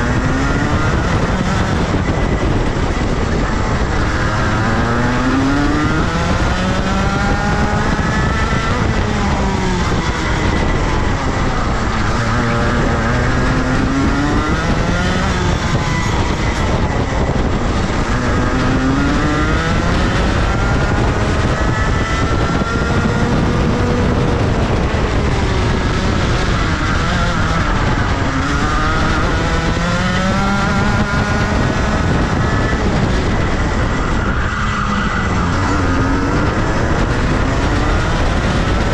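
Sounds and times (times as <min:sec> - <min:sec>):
kart engine accelerating: 0:00.0 - 0:38.9.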